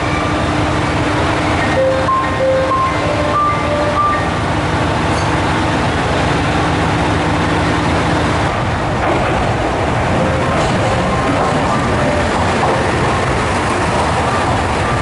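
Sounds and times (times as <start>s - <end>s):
diesel railcar engines idling: 0.0s - 15.0s.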